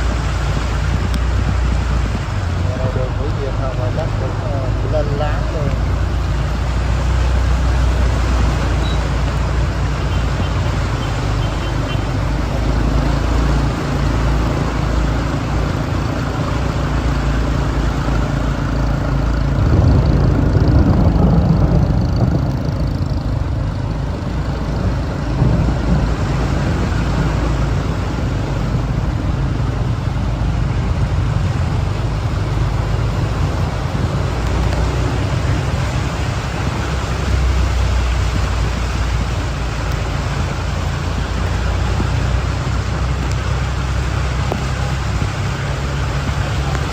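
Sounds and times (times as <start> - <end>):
road traffic noise: 0.0 - 46.9
vehicle engine running: 0.0 - 46.9.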